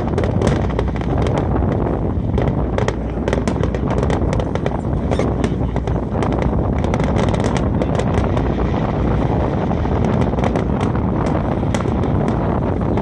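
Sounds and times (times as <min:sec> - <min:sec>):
fireworks cracking and popping: 0:00.0 - 0:13.0
low rumble: 0:00.0 - 0:13.0
wind buffeting microphone: 0:00.0 - 0:13.0.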